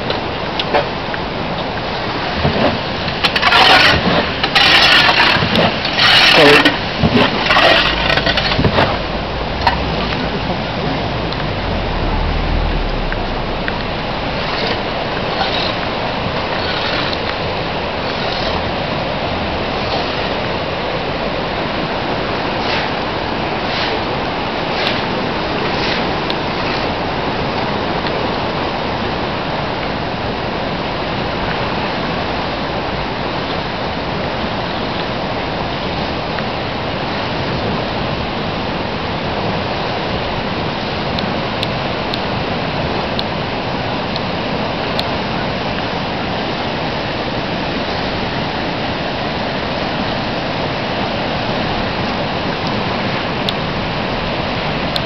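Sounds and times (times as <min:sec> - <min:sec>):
flood water rushing: 0:00.0 - 0:55.0.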